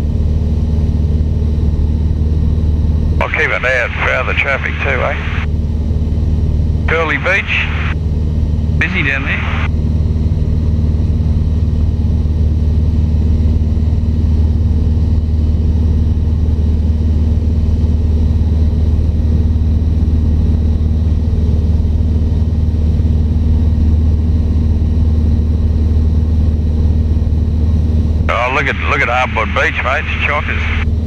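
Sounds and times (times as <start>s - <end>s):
small plane engine droning: 0.0s - 31.0s.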